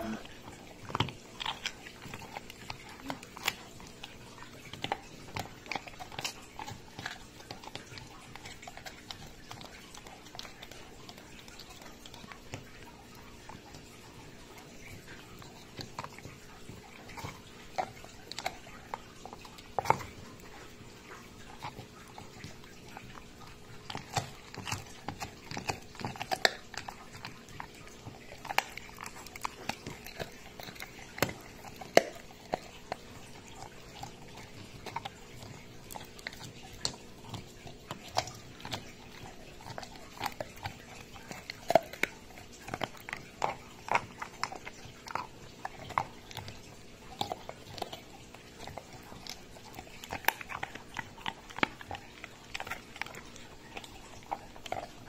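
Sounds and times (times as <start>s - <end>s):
dog chewing bone: 0.0s - 55.0s
teeth clicking on bone: 0.0s - 55.0s.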